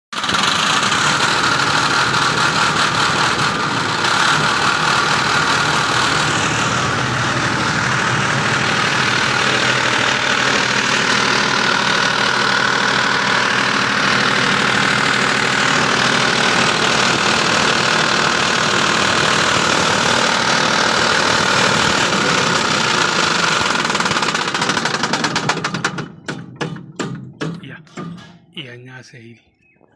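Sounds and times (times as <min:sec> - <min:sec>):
abnormal engine noise: 0:00.1 - 0:29.9
diesel generator running: 0:00.1 - 0:29.9.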